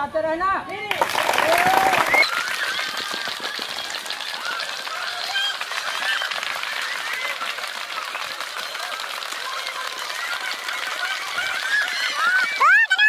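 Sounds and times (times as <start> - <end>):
children cheering and shouting: 1.5 - 7.7, 8.7 - 13.0.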